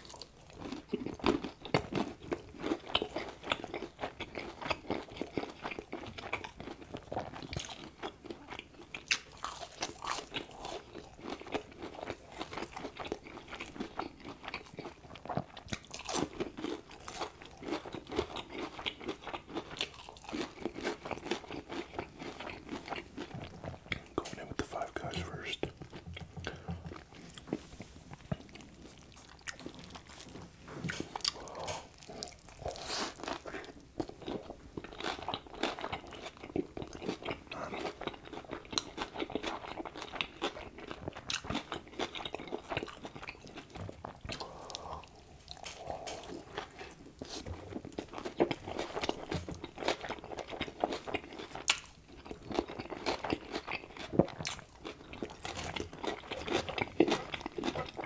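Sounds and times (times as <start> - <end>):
wet chewing and biting: 0.0 - 24.8, 25.6 - 58.0.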